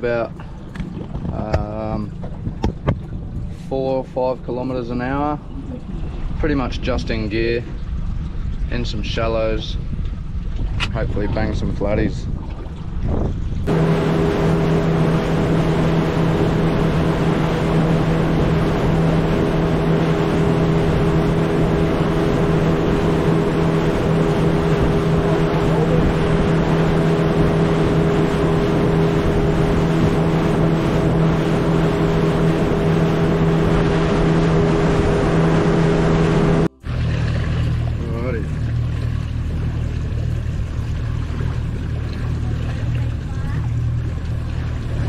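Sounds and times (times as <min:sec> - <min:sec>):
outboard motor humming: 0:00.0 - 0:45.0
water noise: 0:00.0 - 0:45.0
wind: 0:00.0 - 0:45.0.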